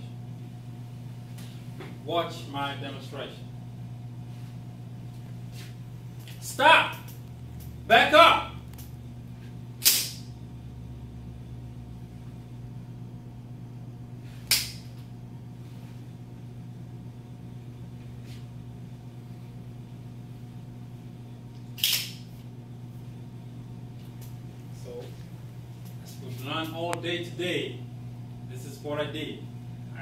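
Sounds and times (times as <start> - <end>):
room hum: 0.0 - 30.0.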